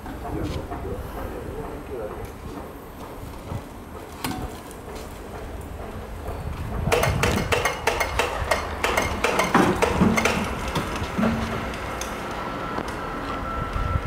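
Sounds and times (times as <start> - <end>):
metal clanking and knocking: 0.0 - 12.2.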